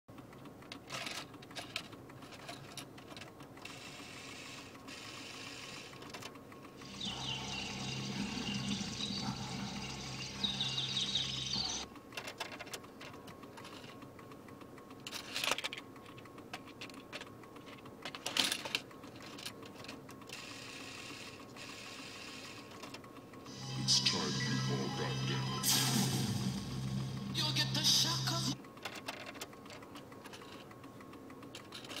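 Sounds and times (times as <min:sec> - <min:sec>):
tape mechanism clicking and whirring: 0:00.1 - 0:32.0.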